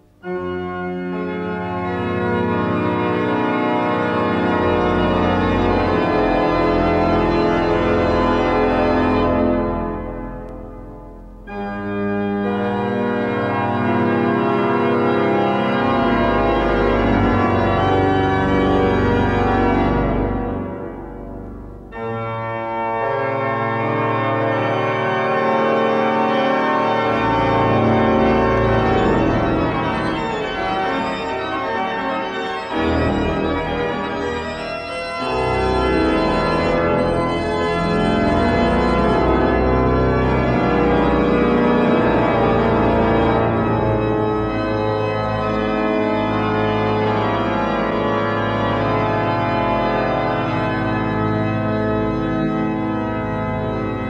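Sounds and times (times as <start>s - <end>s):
organ chords: 0.0s - 54.0s.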